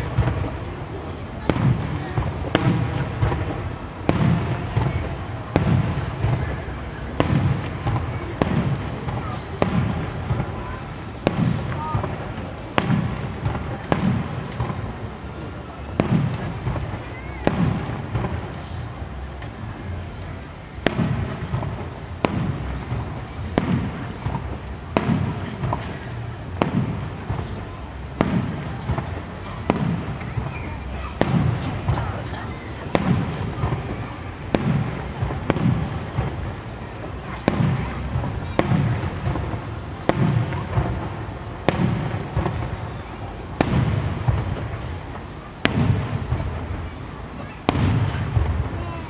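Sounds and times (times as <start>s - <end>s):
firework bangs: 0.0s - 49.0s
low rolling echo: 0.0s - 49.0s.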